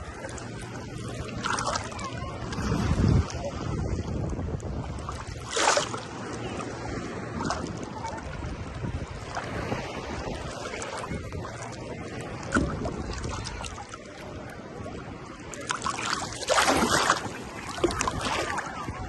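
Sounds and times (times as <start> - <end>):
sea waves washing onto shore: 0.0 - 19.0
wind buffeting microphone: 0.0 - 19.0.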